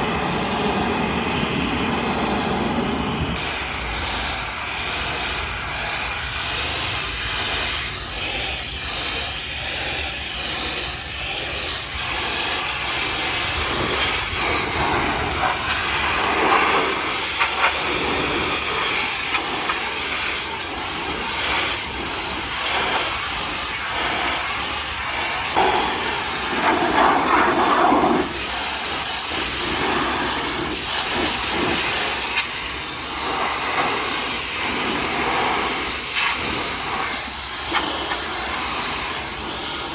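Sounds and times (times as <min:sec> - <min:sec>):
pressure washer jet spraying: 0:00.0 - 0:39.9.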